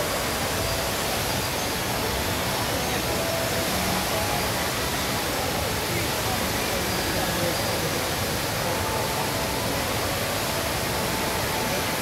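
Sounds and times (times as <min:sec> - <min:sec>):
indoor waterfall rushing: 0:00.0 - 0:12.0.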